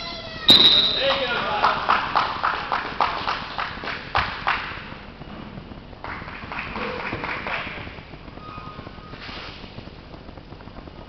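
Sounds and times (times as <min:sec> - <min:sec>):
spectators in a gym: 0:00.0 - 0:09.6.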